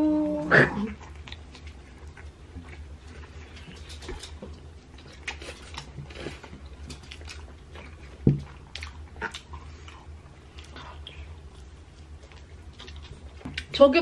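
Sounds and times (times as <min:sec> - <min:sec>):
chewing pizza: 0:00.0 - 0:14.0
low steady hum: 0:00.0 - 0:14.0.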